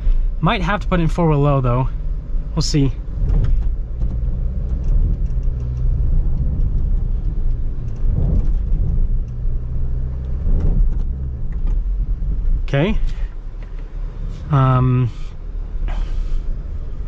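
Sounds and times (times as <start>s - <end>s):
engine rumbling under load: 0.0s - 17.0s.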